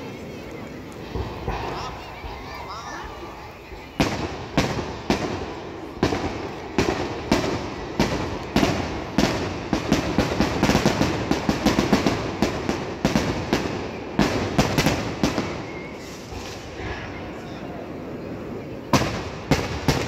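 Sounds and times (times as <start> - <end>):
fireworks bursting in bangs: 1.0 - 17.4, 18.9 - 20.0.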